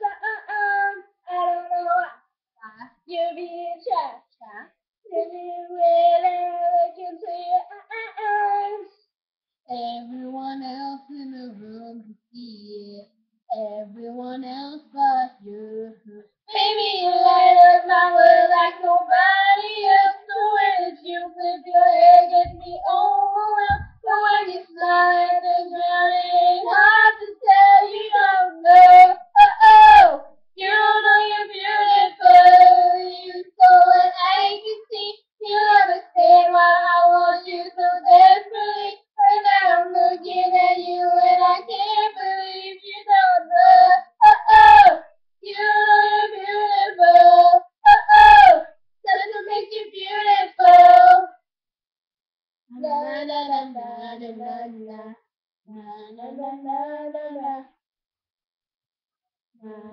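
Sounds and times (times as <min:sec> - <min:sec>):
girls singing a pop song: 0:00.0 - 0:08.9, 0:09.7 - 0:51.4, 0:52.8 - 0:55.1.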